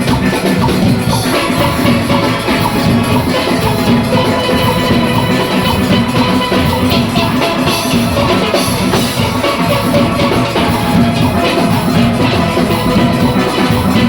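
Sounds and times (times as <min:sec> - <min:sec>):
drum kit and percussion rhythm: 0:00.0 - 0:14.0
steelpans ringing: 0:00.0 - 0:14.0.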